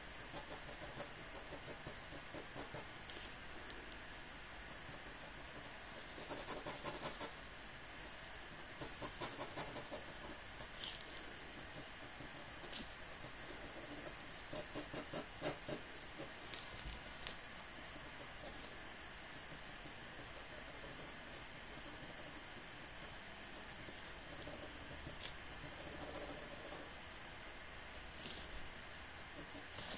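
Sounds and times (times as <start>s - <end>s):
pen scratching on paper: 0.0s - 7.4s, 8.0s - 16.7s, 17.7s - 27.0s, 27.9s - 29.9s.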